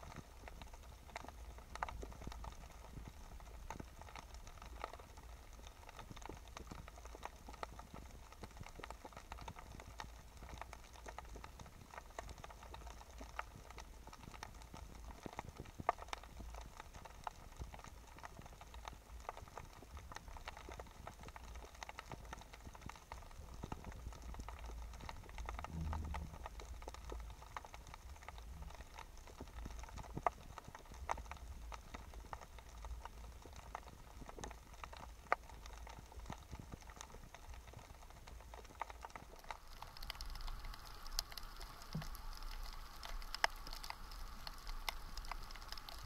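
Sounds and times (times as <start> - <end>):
low rumble of sea: 0.0 - 46.0
sharp clicks underwater: 0.0 - 46.0.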